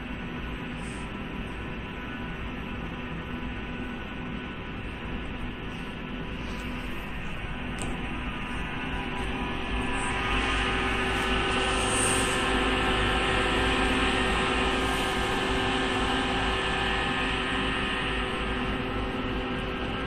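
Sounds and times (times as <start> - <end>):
cooling fans droning: 0.0 - 20.0.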